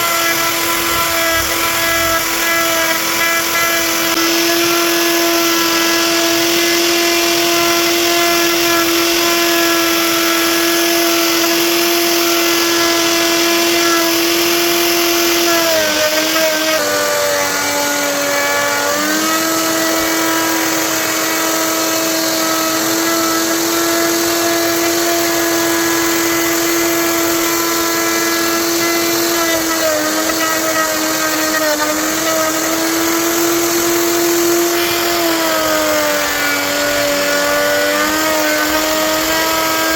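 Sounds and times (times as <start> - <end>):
power tool motor cutting wood: 0.0 - 39.9.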